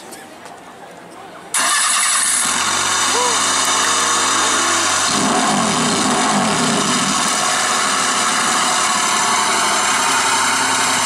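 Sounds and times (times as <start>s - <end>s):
small engine idling: 1.6s - 11.0s.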